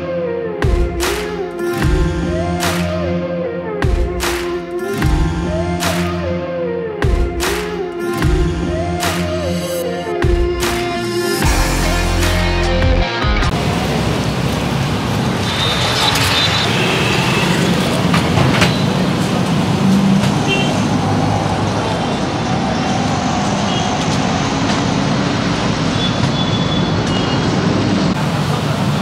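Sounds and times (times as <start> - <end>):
street traffic noise: 0.0 - 29.0.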